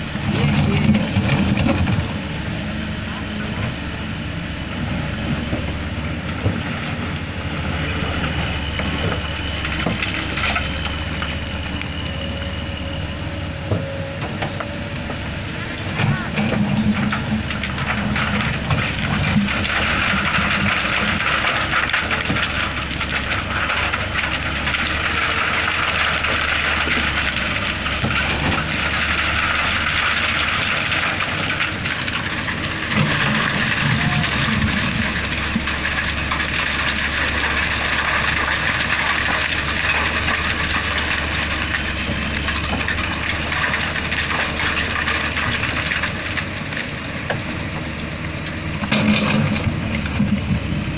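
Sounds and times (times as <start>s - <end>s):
diesel engine rumbling: 0.0s - 50.9s.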